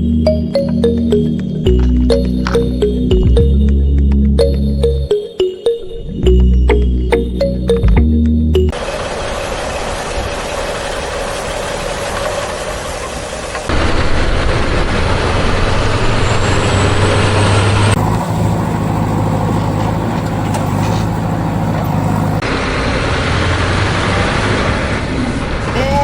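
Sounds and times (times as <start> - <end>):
truck engine running: 0.0 - 5.2, 6.2 - 25.7.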